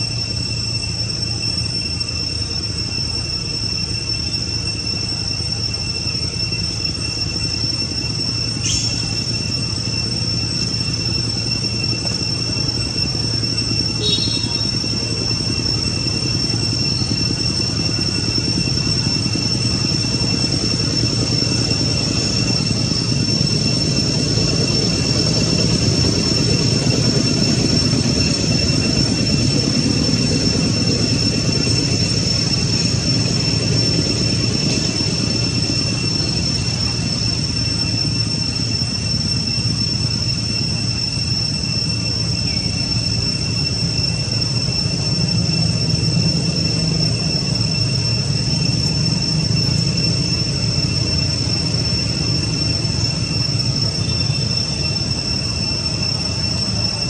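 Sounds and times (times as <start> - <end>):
forest insects droning: 0.0 - 57.0.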